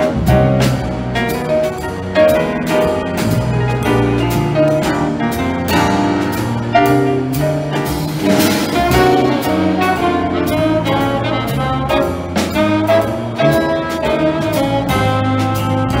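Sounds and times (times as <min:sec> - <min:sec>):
jazz band playing: 0:00.0 - 0:16.0.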